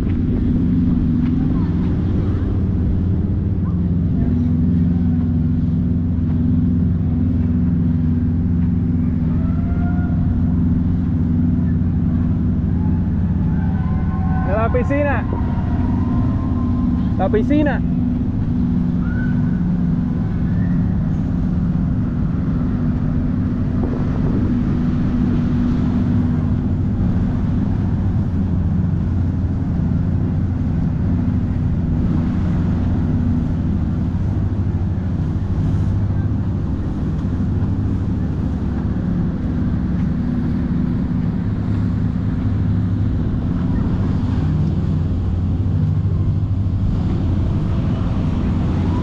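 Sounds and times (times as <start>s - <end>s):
ship engines droning: 0.0s - 49.0s.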